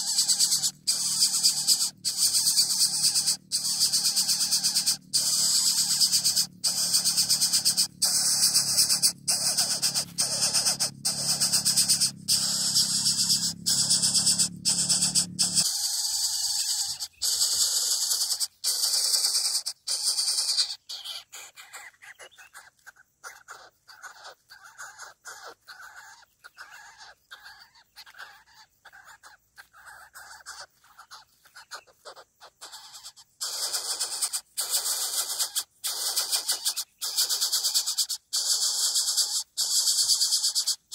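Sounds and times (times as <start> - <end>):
bird chick hissing calls: 0.0 - 40.9.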